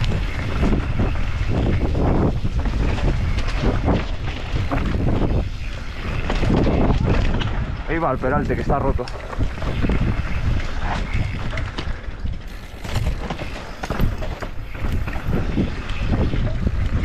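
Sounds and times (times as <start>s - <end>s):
bike rattling with sharp knocks: 0.0s - 17.0s
tyres rumbling over dirt: 0.0s - 17.0s
wind buffeting microphone: 0.0s - 17.0s.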